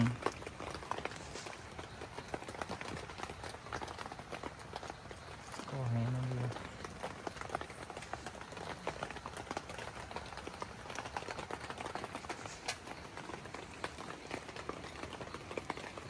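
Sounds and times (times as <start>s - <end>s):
rain falling on a tent: 0.0s - 16.0s.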